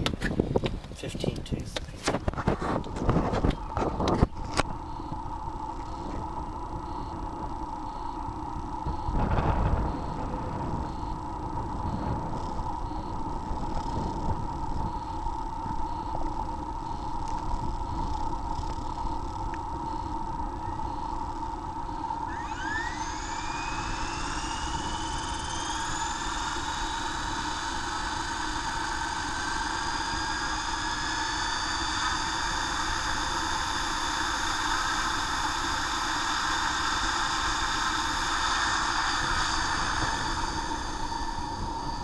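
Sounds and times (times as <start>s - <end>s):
rc helicopter motor whine: 1.7s - 42.0s.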